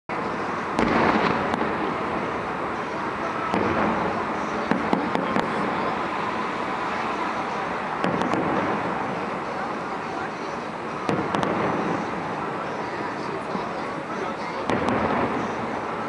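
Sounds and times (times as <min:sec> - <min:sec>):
fireworks crackling and rumbling: 0:00.1 - 0:16.0
sharp fireworks bangs: 0:00.1 - 0:16.0.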